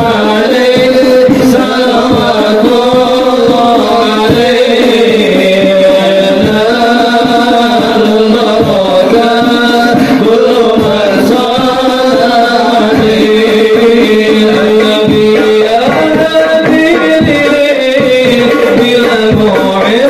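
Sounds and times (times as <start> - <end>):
devotional singing: 0.0 - 20.0
frame drum beats: 0.0 - 20.0.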